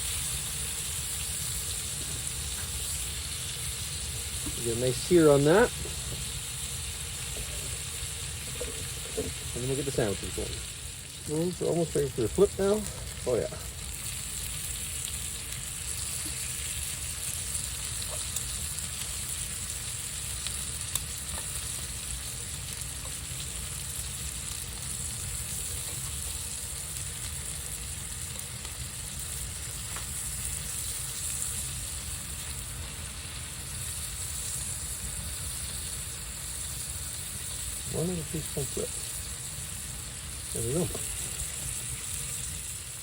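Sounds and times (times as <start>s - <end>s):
steaks sizzling in frying pan: 0.0s - 43.0s.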